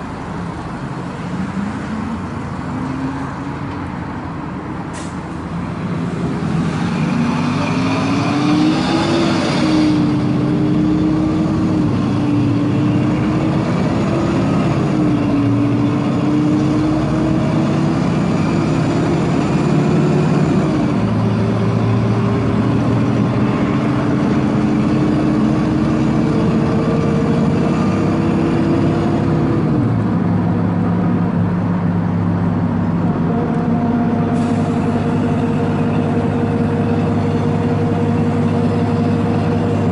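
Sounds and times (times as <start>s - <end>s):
bus engine pulling under load: 0.0s - 39.9s.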